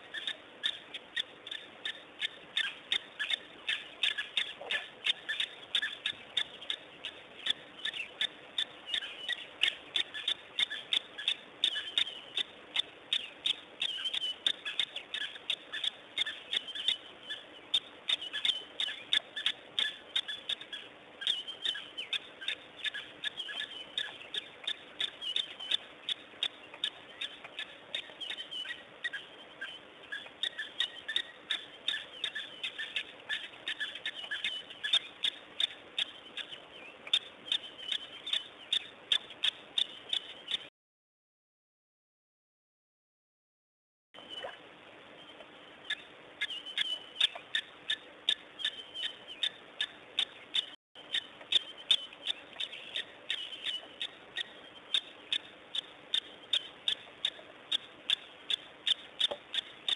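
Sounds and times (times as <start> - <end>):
faint hum: 0.0 - 40.7, 44.2 - 59.9
small birds chirping: 0.0 - 40.7, 44.2 - 59.9.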